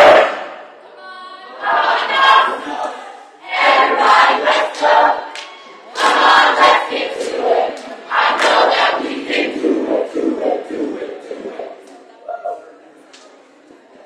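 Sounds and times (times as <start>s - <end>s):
group of voices chanting: 0.0s - 0.8s, 1.4s - 12.0s.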